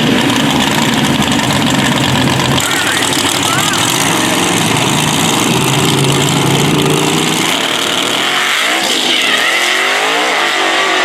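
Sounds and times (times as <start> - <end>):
drag race car engines: 0.0 - 11.0.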